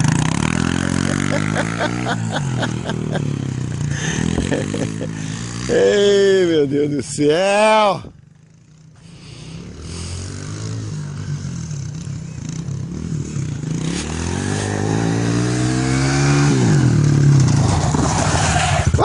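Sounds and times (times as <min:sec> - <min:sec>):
dirt bike engine revving: 0:00.0 - 0:06.6, 0:08.3 - 0:19.0.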